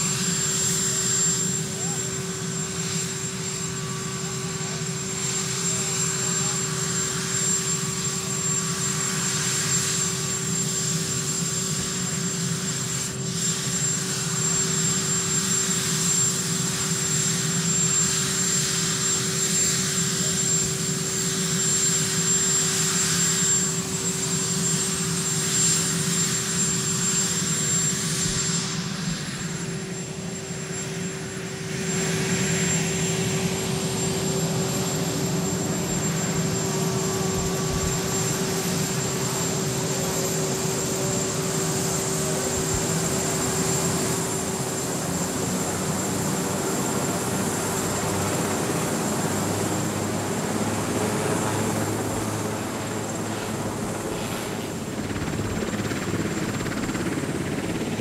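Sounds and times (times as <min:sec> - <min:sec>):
helicopter turbine whine: 0:00.0 - 0:58.0.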